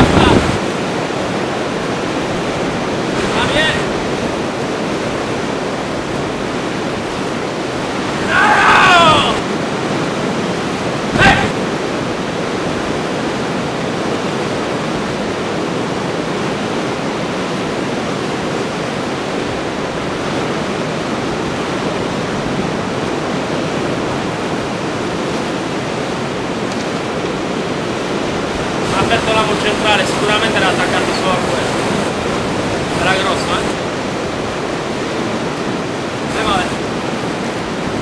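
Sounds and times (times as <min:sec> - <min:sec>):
sea surf breaking on rocks: 0:00.0 - 0:38.0
wind: 0:00.0 - 0:38.0.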